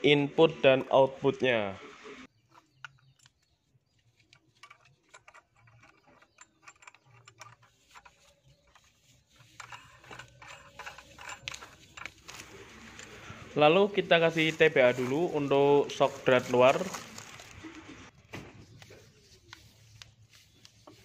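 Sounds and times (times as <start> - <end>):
light handling noises: 2.4 - 21.0.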